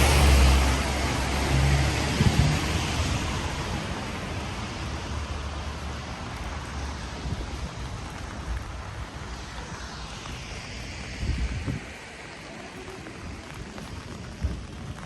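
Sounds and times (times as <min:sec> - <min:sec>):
rain falling on a street: 0:00.0 - 0:15.0
vehicle tyres hissing on wet road: 0:00.0 - 0:15.0.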